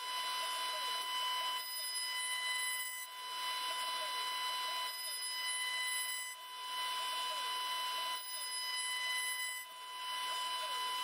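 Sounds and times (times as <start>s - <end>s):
cnc router whining: 0.0s - 11.0s.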